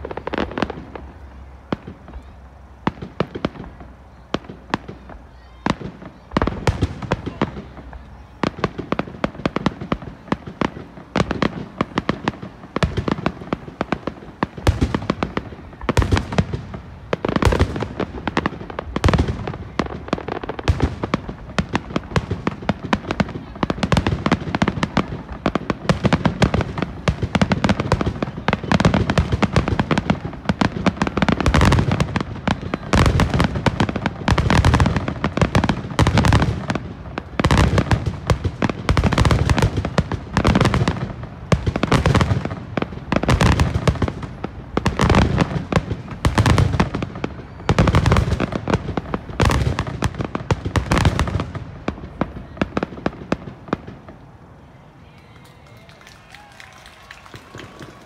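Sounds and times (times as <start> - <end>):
fireworks bursts and crackle: 0.0 - 58.0.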